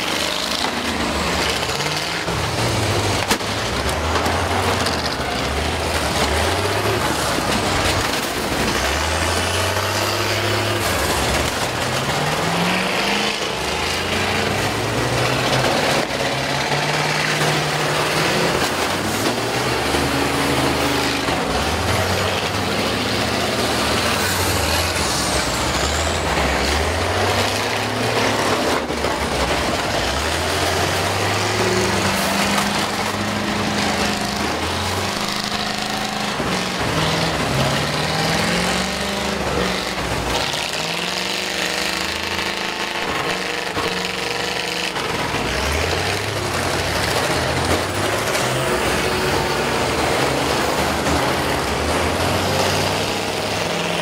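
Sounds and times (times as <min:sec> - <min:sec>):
bus engines revving: 0:00.0 - 0:54.0
loud steady din: 0:00.0 - 0:54.0.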